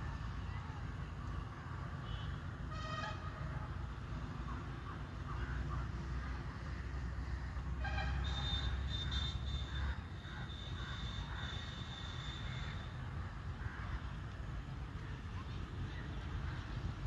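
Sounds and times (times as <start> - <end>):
distant road traffic: 0.0 - 17.0
vehicle rumble: 0.0 - 17.0.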